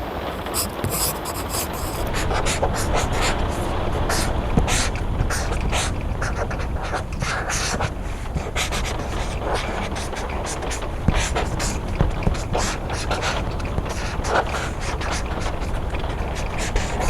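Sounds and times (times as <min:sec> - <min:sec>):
rain: 0:00.0 - 0:17.0
pencil writing on paper: 0:00.5 - 0:17.0.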